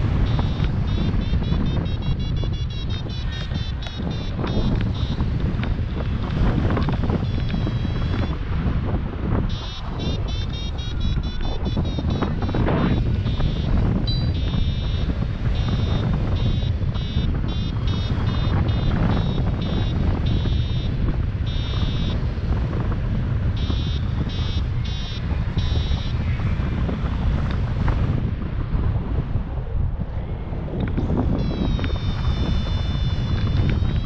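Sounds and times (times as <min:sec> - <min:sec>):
variometer beeping: 0:00.0 - 0:08.5, 0:09.3 - 0:22.4, 0:23.4 - 0:26.4, 0:30.9 - 0:34.0
wind rumble on microphone: 0:00.0 - 0:34.0.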